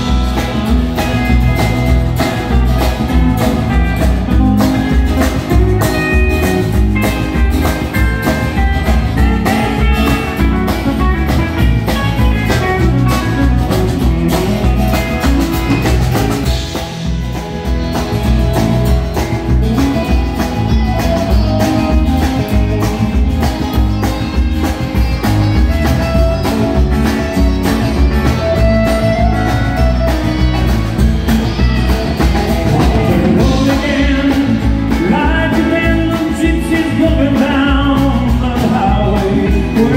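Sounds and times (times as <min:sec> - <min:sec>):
bass guitar: 0:00.0 - 0:39.9
drums playing steady beat: 0:00.0 - 0:39.9
electric guitars: 0:00.0 - 0:39.9.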